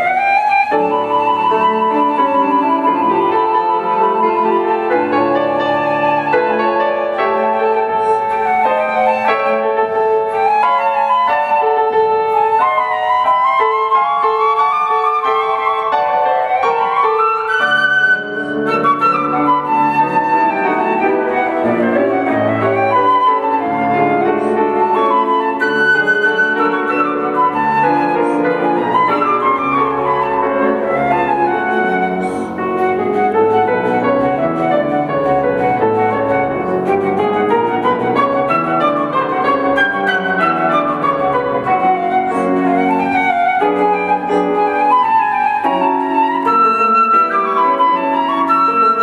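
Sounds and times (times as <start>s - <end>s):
flute melody: 0.0s - 49.0s
piano accompaniment: 0.0s - 49.0s.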